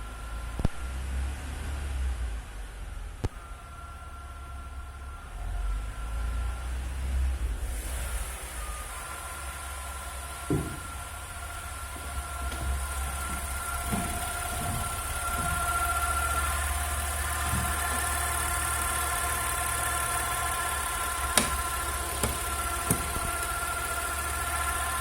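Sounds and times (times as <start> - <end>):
car engine idling: 0.0 - 0.6, 1.3 - 25.0.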